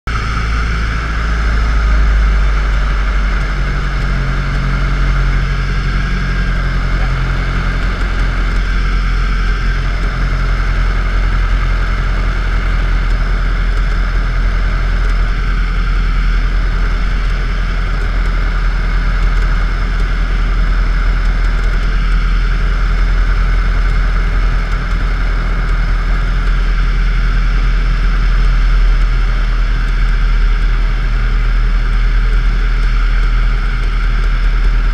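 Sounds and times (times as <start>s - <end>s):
propeller aircraft engine drone: 0.1s - 34.9s.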